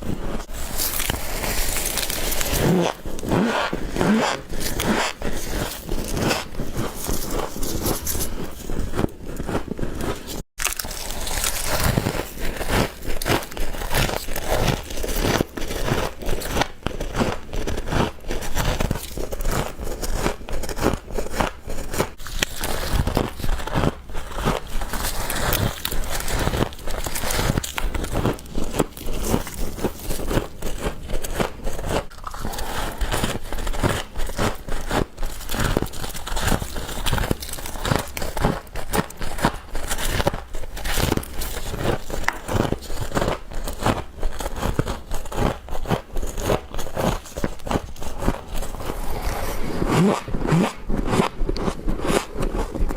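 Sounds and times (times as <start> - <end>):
crunching frost: 0.0 - 52.9.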